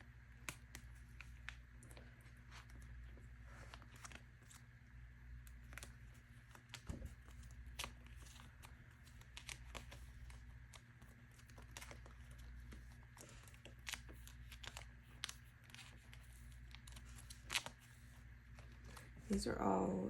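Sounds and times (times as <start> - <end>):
low steady hum: 0.0 - 20.0
plastic sleeves rustling and crinkling: 0.3 - 19.4.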